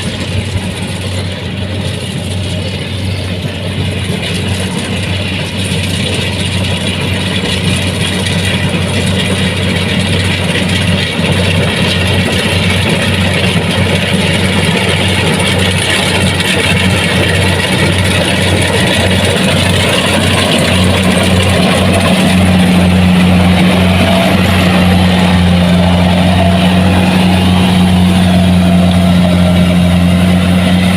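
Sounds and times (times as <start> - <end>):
combine harvester diesel engine drone: 0.0 - 30.9.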